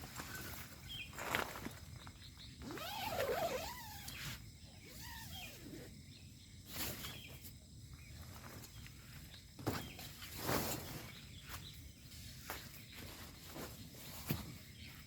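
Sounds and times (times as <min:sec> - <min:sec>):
faint insect chirring: 0:00.1 - 0:15.0.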